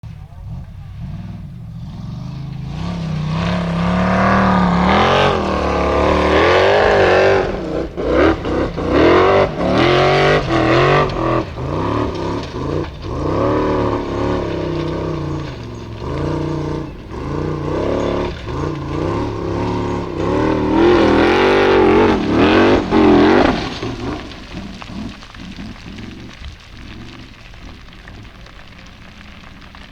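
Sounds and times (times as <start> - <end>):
buggy engine revving: 0.0 - 29.9.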